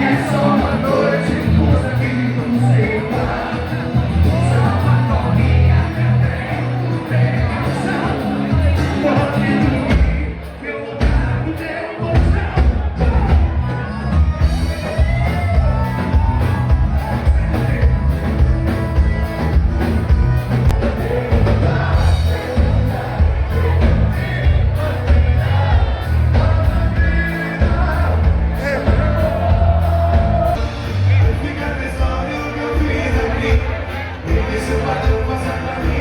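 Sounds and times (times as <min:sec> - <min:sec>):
heavy bass: 0:00.0 - 0:36.0
person singing: 0:00.0 - 0:36.0.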